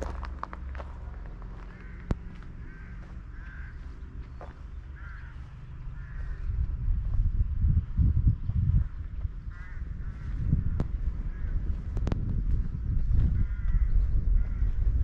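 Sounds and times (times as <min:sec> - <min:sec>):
birds calling: 0:00.0 - 0:06.7, 0:08.4 - 0:15.0
wind rumble on microphone: 0:00.0 - 0:15.0.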